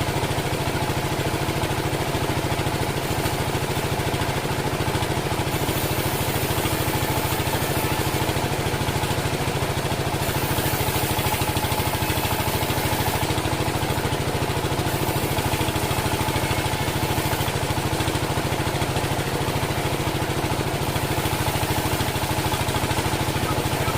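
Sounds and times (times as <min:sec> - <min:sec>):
sawmill engine running: 0:00.0 - 0:23.9.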